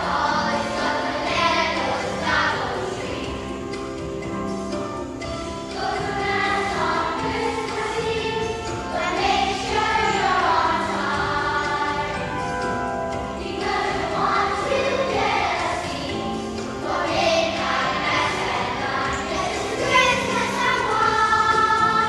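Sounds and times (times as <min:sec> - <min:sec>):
choir singing a christmas song: 0:00.0 - 0:04.2, 0:05.2 - 0:22.0
musical accompaniment: 0:00.0 - 0:22.0.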